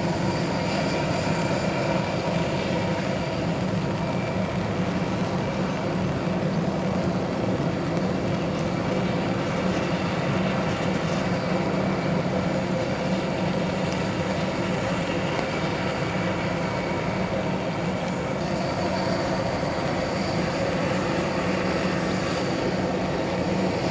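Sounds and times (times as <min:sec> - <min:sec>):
jet engines whining: 0:00.0 - 0:23.9.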